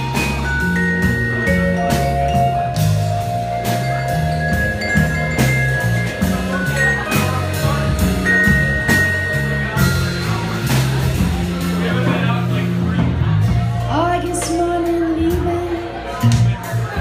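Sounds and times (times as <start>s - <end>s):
drum hits: 0.0s - 13.7s.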